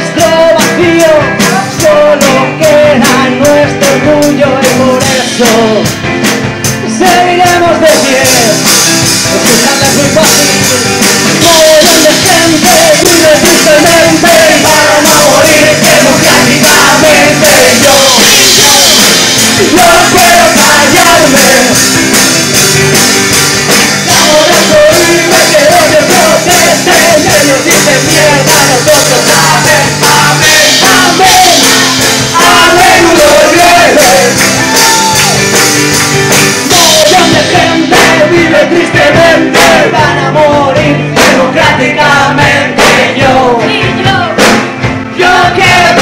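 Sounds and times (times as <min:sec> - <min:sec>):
person singing: 0:00.0 - 0:06.0, 0:06.7 - 0:22.2, 0:24.0 - 0:35.6, 0:36.2 - 0:44.6
drums keeping a steady beat: 0:00.0 - 0:46.0
electric guitar: 0:00.0 - 0:46.0.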